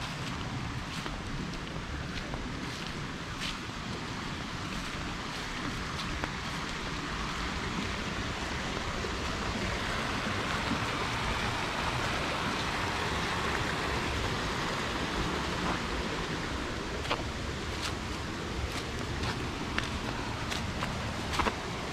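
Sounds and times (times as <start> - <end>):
river cascading over rocks: 0.0 - 21.9.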